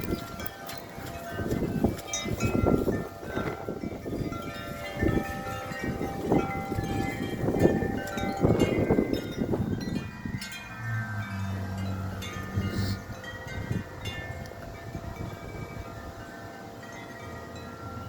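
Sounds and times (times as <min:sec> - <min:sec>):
wind chimes ringing: 0:00.0 - 0:18.0
wind gusts rumbling on microphone: 0:00.0 - 0:18.0.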